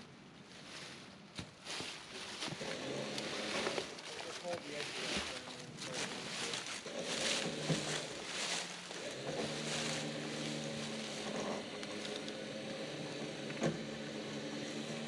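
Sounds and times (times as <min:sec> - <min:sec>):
winch motor running: 0:02.6 - 0:15.0.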